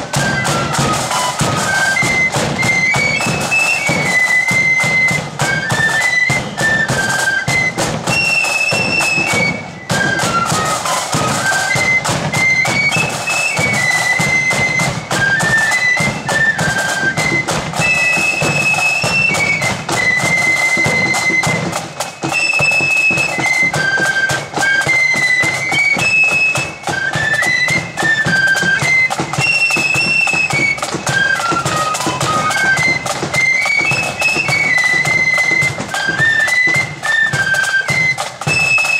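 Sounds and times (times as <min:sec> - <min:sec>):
flutes playing in unison: 0:00.0 - 0:38.9
side drums rattling: 0:00.0 - 0:38.9.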